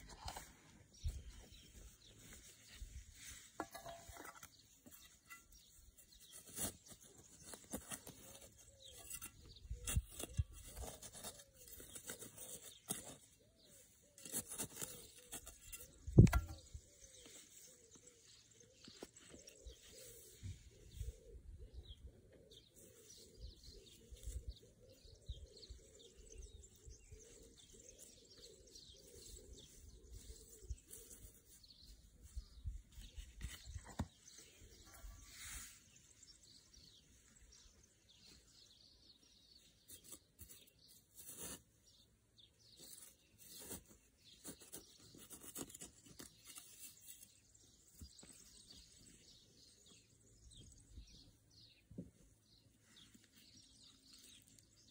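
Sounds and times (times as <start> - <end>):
rustling of dry grass and soil: 0.0 - 54.9.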